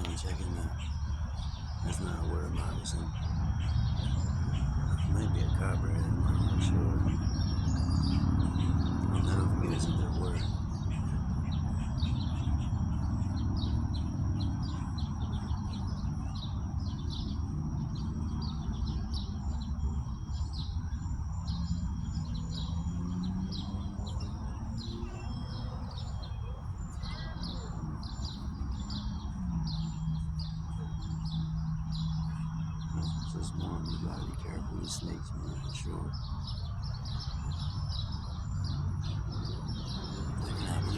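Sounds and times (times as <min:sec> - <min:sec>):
small birds chirping: 0:00.0 - 0:40.9
thin steady high tone: 0:00.0 - 0:40.9.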